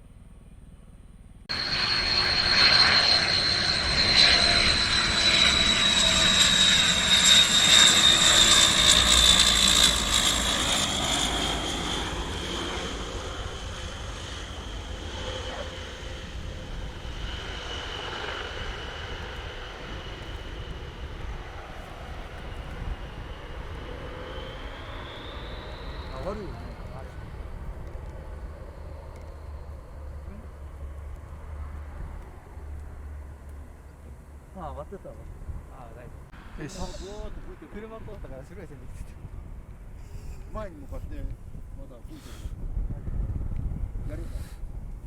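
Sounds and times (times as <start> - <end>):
turboprop engine whine: 0.0 - 45.0
propeller noise: 1.5 - 45.0.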